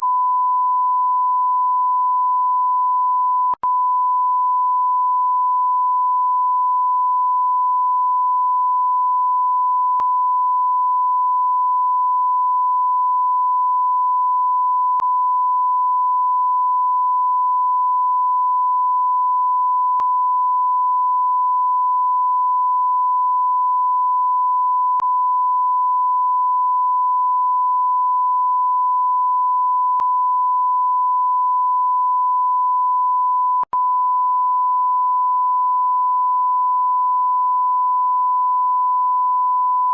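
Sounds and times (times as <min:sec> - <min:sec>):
censor bleep tone: 0:00.0 - 0:39.9.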